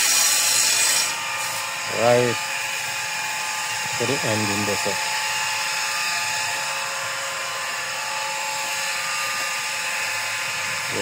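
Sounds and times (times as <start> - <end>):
motor whining steadily: 0.0 - 11.0.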